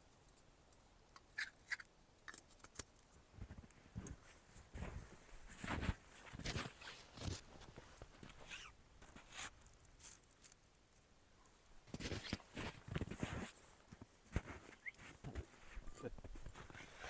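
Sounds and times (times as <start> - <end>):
rustling and crunching handling noises: 1.4 - 17.0.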